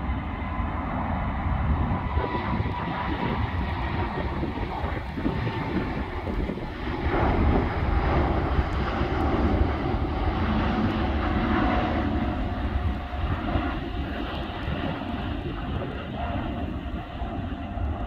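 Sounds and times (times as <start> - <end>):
jet airliner engines rumbling: 0.0 - 18.0.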